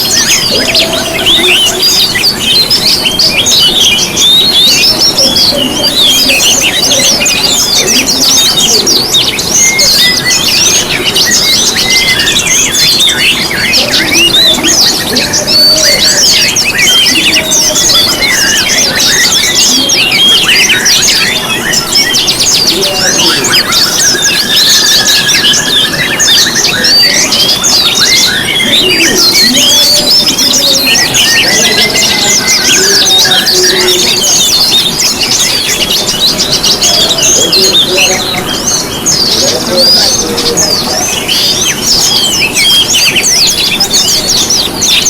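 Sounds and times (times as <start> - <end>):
songbirds chirping and trilling: 0.0 - 45.0.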